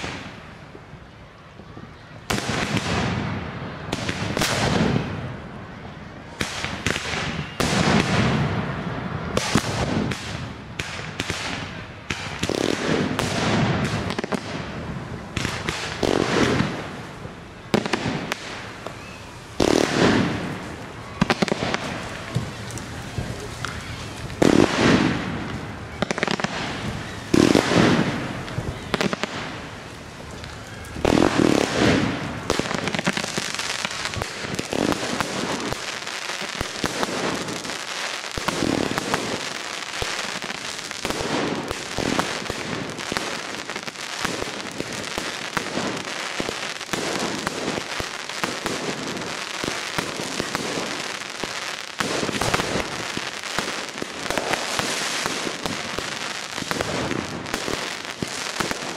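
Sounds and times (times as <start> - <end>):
fireworks crackling and popping: 0.0 - 58.9.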